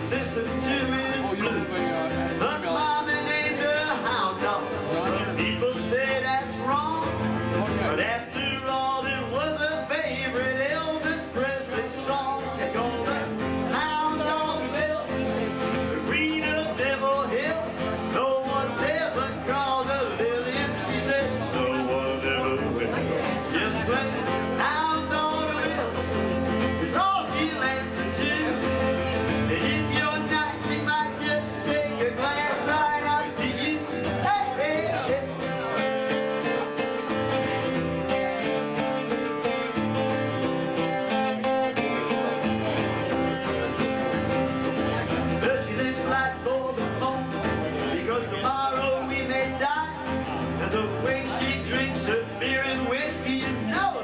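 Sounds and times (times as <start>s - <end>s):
man singing country song: 0.0s - 54.0s
strummed acoustic guitar: 0.0s - 54.0s.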